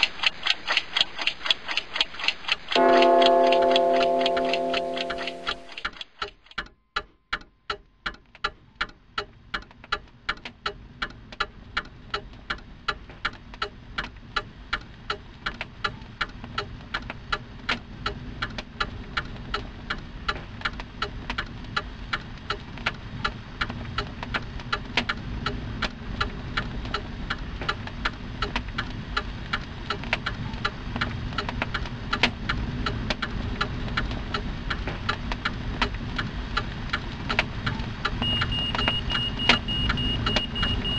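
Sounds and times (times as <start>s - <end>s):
clock ticking: 0.0s - 17.4s, 23.2s - 40.9s.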